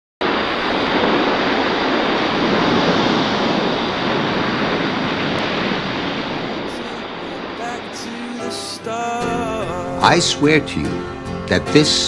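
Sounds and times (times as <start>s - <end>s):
radio static hiss: 0.2s - 10.6s.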